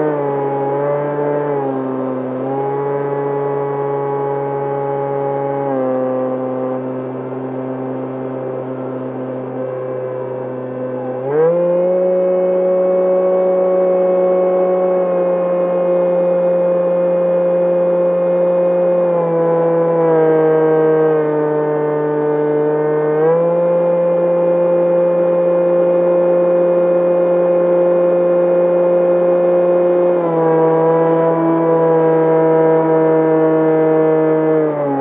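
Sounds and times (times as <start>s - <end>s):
electric motor and propeller whining: 0.0s - 35.0s.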